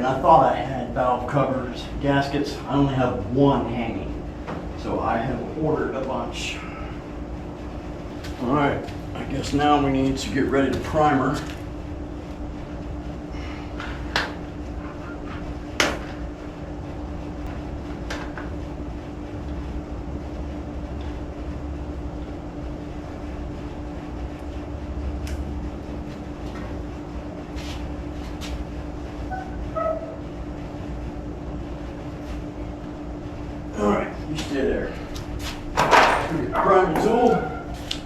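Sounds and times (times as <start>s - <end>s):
steady low shop hum: 0.0s - 38.0s.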